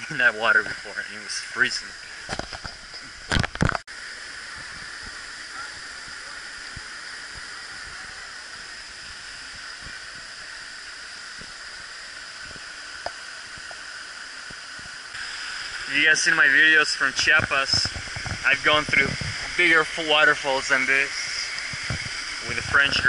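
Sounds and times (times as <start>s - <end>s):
waterfall rushing: 4.0s - 23.0s.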